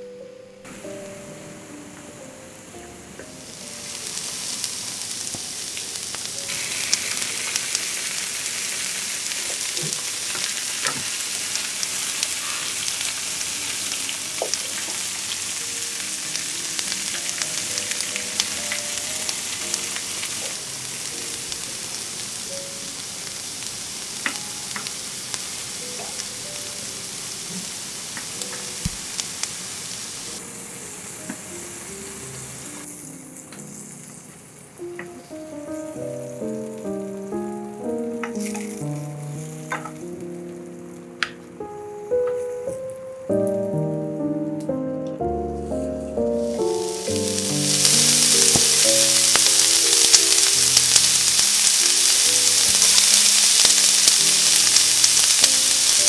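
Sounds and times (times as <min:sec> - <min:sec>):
vegetables sizzling in a pan: 0:00.7 - 0:40.9, 0:46.2 - 0:56.0.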